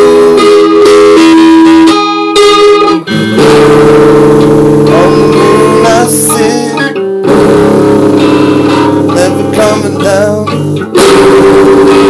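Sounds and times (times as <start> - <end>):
guitar chords with bending notes: 0.0 - 12.0.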